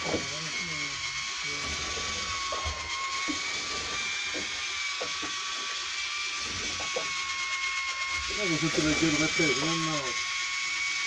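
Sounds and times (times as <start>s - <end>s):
motor whining: 0.0s - 11.0s.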